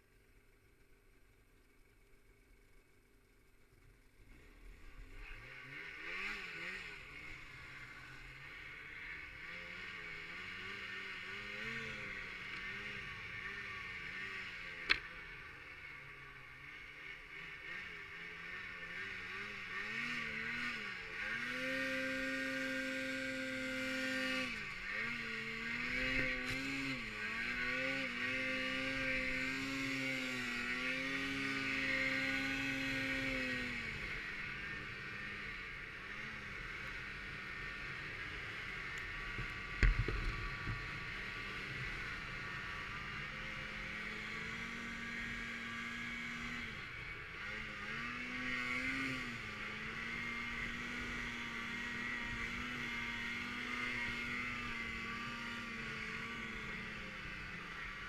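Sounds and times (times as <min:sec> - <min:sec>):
snowmobile engine revving: 0:04.2 - 0:58.0.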